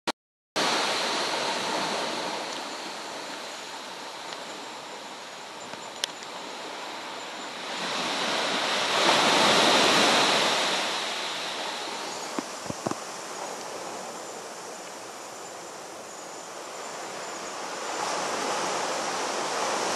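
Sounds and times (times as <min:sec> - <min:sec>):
surf breaking on beach: 0:00.6 - 0:19.9.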